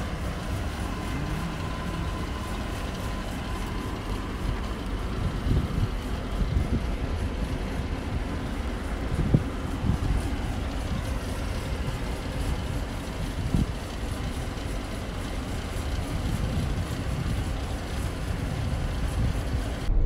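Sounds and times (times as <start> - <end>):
distant traffic: 0.0 - 20.0
wind buffeting microphone: 0.0 - 20.0.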